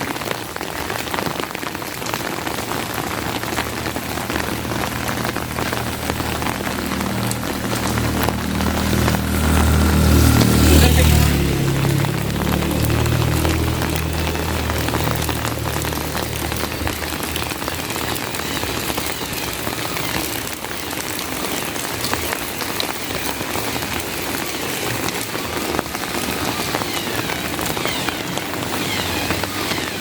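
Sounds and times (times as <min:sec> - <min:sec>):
heavy rain falling: 0:00.0 - 0:30.0
low vehicle rumble: 0:02.1 - 0:30.0.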